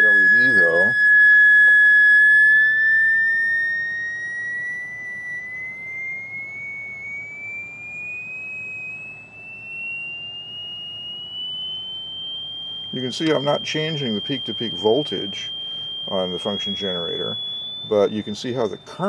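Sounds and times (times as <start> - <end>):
high whistling tone rising in pitch: 0.0 - 19.0.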